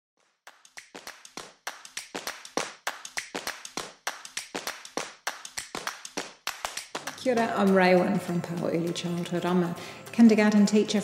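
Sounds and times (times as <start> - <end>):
sharp claps and taps: 0.2 - 9.1.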